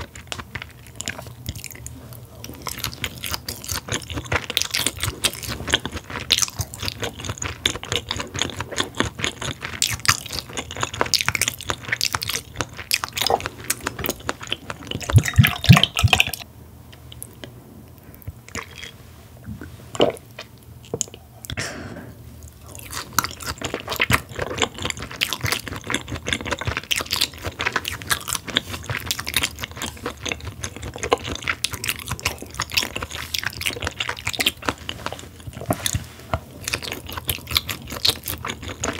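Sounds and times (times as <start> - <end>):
chewing smacks and clicks: 0.0 - 18.9, 22.7 - 38.9.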